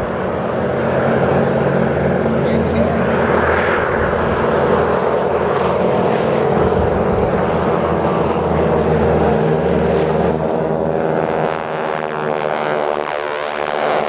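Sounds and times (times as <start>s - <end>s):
propeller aircraft flying past: 0.0s - 14.0s.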